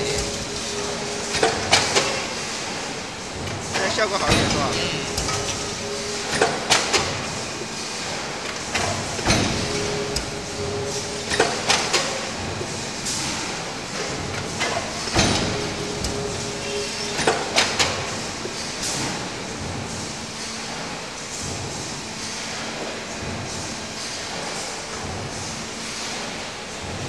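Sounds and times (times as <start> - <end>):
steady machine hum: 0.0 - 27.0.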